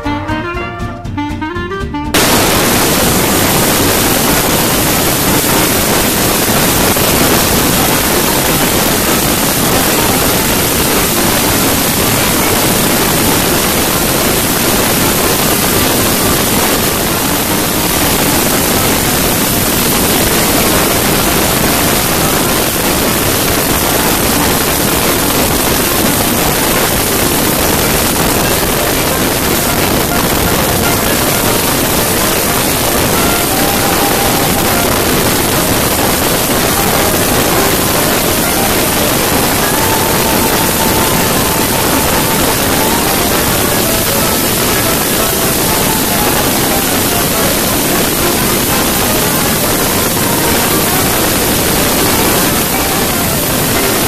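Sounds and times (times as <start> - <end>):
road noise: 2.2 - 54.0.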